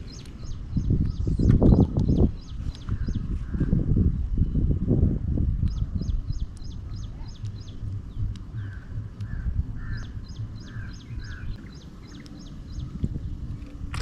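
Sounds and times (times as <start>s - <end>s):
birds calling: 0.0s - 4.2s, 5.7s - 14.0s
low rumble: 0.0s - 14.0s.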